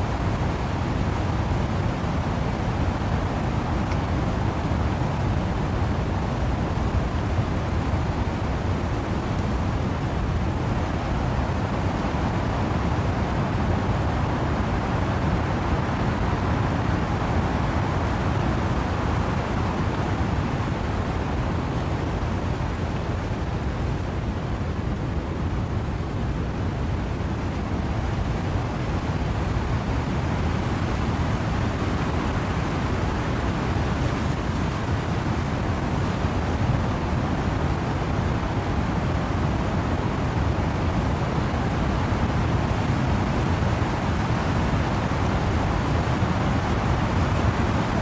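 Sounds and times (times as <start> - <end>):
rain in trees: 0.0 - 48.0
wind in trees: 0.0 - 48.0.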